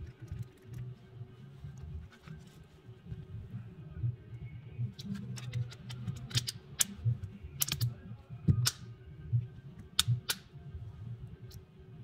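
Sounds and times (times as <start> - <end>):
soft low repeating pulse: 0.0 - 12.0.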